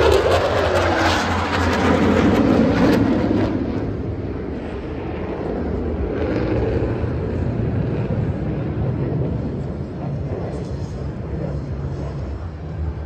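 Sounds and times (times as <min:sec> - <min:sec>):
jet engine rumble overhead: 0:00.0 - 0:13.0.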